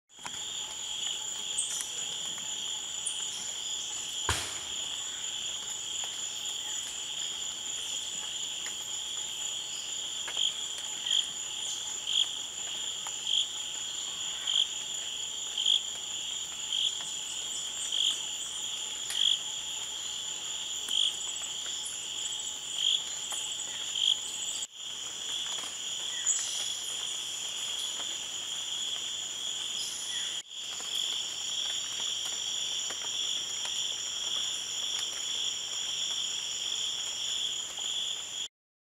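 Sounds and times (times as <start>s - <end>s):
insects droning: 0.1s - 38.5s.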